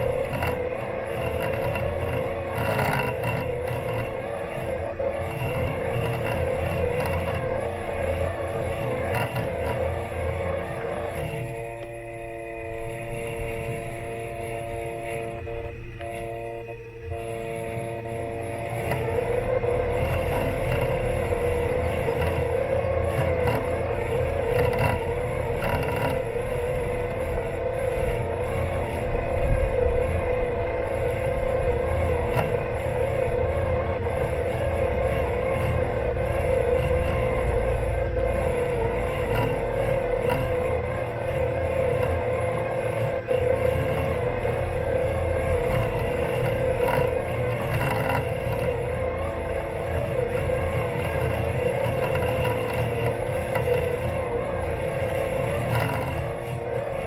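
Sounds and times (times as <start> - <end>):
low rumble: 0.0 - 56.1
electric motors whining: 0.0 - 57.0.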